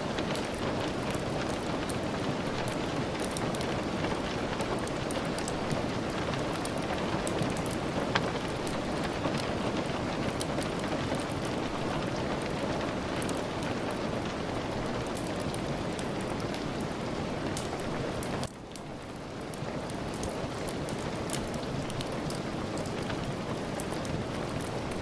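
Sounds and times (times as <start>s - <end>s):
heavy rain: 0.0s - 25.0s
wood fire crackling: 0.0s - 25.0s.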